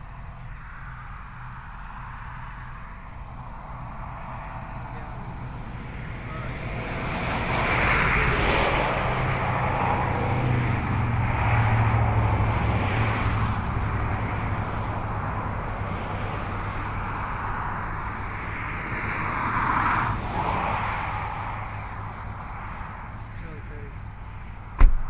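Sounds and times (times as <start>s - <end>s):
highway traffic tyre noise: 0.0s - 25.0s
low engine hum: 0.0s - 25.0s.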